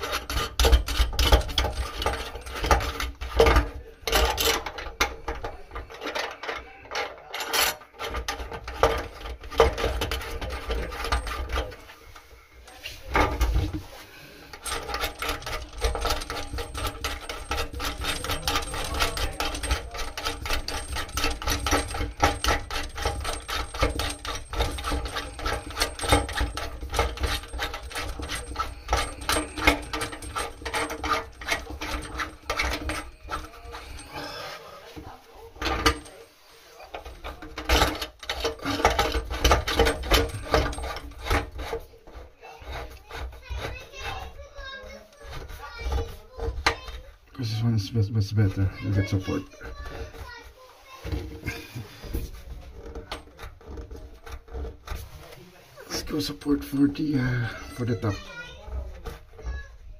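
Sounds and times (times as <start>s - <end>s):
plumbing parts clicking and tapping: 0.0s - 59.9s.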